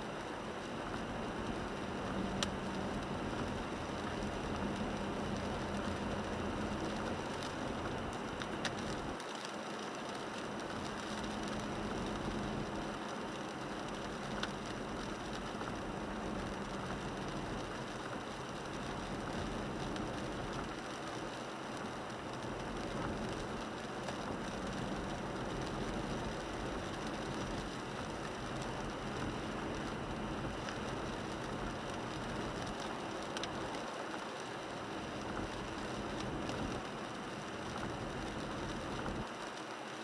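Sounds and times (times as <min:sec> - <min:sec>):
car road and engine noise: 0:00.0 - 0:40.0
rain on windshield: 0:00.0 - 0:40.0.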